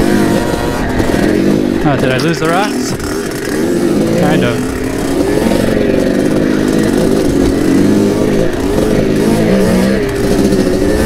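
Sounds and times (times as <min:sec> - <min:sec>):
two-stroke dirt bike engine: 0:00.0 - 0:11.0.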